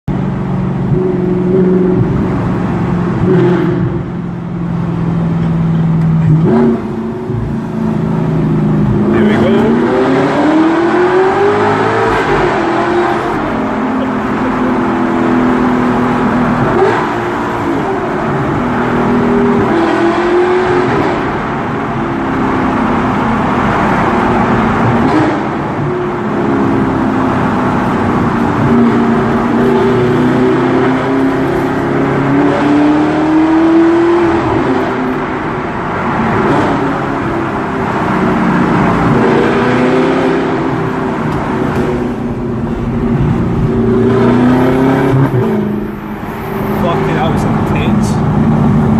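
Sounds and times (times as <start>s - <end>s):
loud sports car engine revving: 0.2s - 48.9s.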